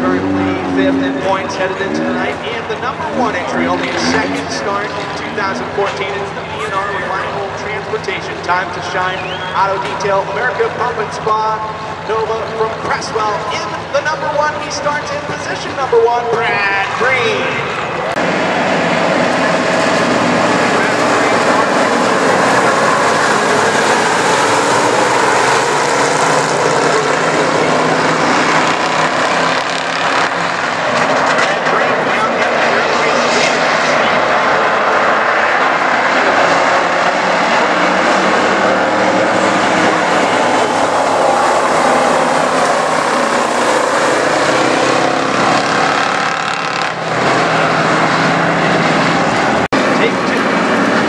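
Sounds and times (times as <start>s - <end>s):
race car engines roaring: 0.0s - 51.0s.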